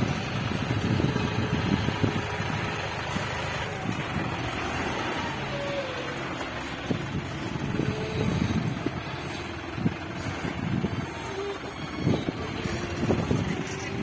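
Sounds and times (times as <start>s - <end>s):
tractor diesel engine chugging: 0.0s - 14.0s.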